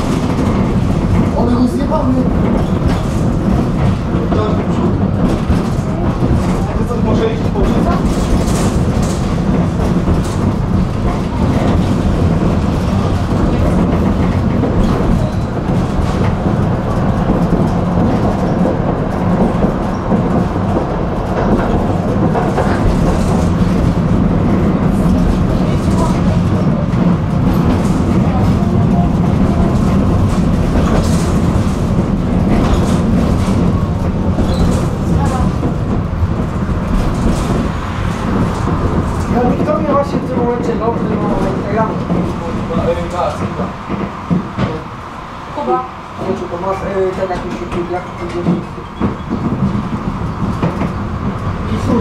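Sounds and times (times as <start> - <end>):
tram wheels rumbling on rails: 0.0 - 52.0.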